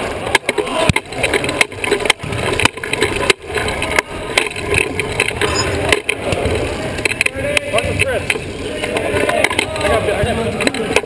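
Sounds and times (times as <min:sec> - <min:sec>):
wheelchair frame clicks and knocks: 0:00.0 - 0:09.9
wheelchair wheels rumbling on wood floor: 0:00.0 - 0:11.0.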